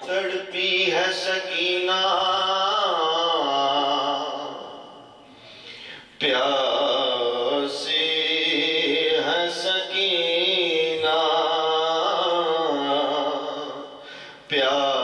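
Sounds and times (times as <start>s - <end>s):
man singing a lament: 0.0s - 5.0s, 6.2s - 15.0s.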